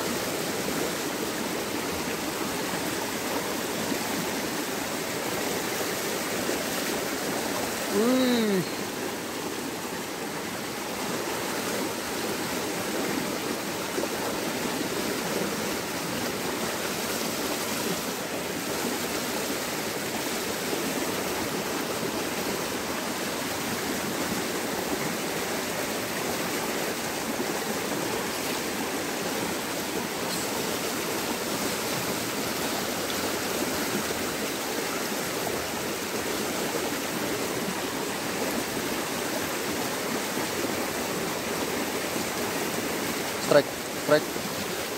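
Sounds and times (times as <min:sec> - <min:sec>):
stream pouring over rocks: 0:00.0 - 0:44.9.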